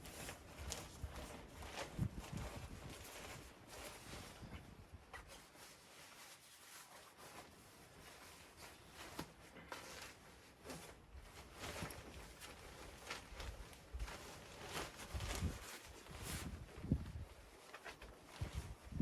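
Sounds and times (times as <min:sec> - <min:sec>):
faint rustling: 0:00.0 - 0:19.0.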